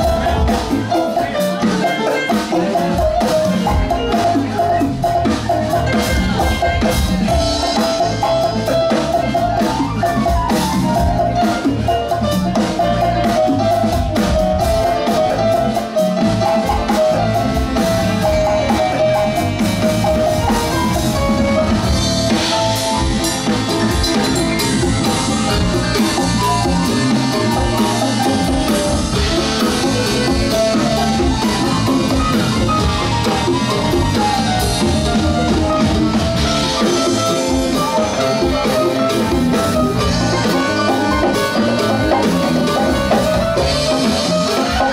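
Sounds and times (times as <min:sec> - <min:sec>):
funk band playing: 0:00.0 - 0:44.9
wavering lead melody: 0:00.0 - 0:44.9.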